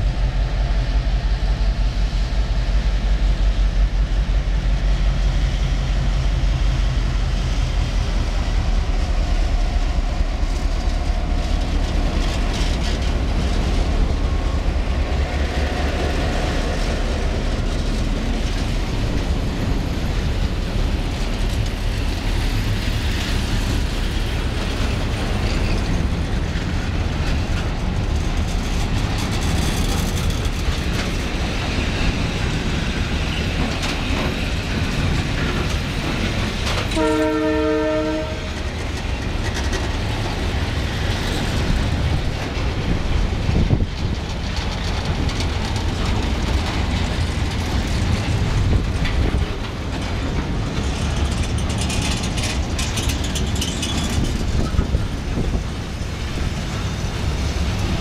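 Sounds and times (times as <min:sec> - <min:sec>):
locomotive engine rumble: 0:00.0 - 0:58.0
wagon wheels rolling on rails: 0:10.5 - 0:58.0.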